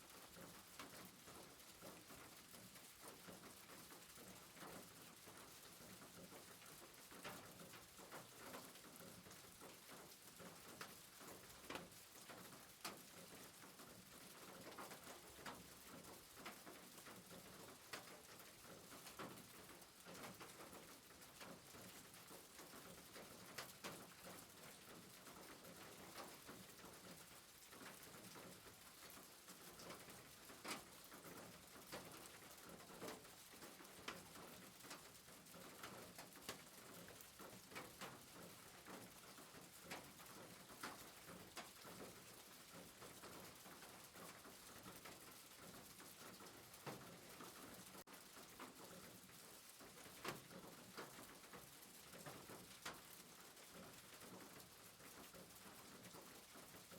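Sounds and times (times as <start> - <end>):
soft rain hiss: 0.0 - 56.9
raindrops ticking: 0.3 - 56.9.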